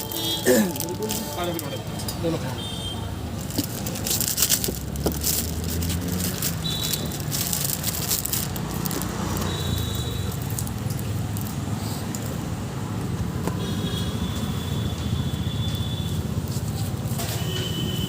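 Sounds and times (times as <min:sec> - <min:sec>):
traffic noise with low hum: 0:00.0 - 0:18.0.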